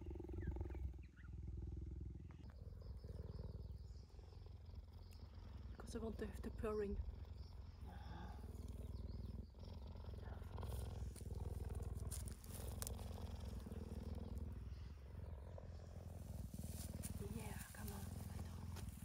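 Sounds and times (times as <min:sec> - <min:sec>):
cheetah purring: 0:00.0 - 0:19.0.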